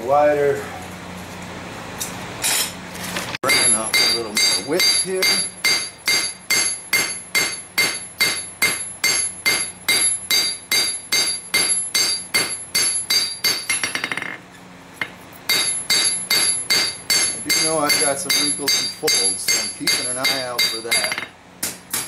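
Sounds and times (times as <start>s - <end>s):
hammer striking steel on anvil: 3.4s - 14.4s, 15.0s - 22.0s.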